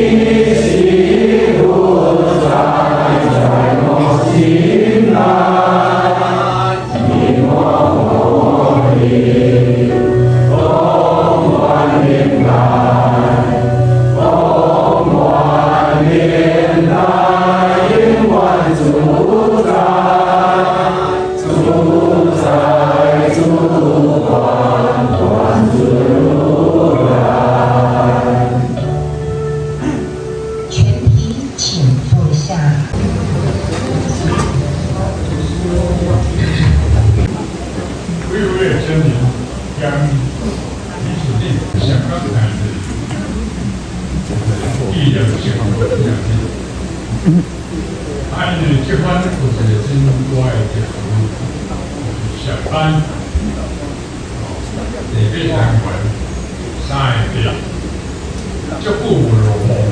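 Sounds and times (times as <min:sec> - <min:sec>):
congregation singing a hymn: 0:00.0 - 0:31.2, 0:32.9 - 0:59.9.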